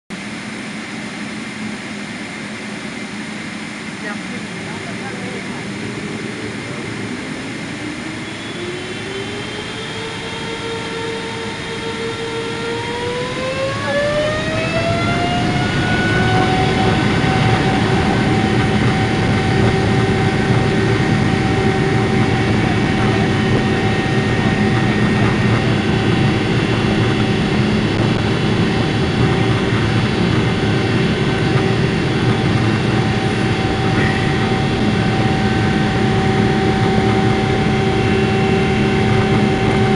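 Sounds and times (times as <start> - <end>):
jet engine whine spooling up: 0.1 - 39.9.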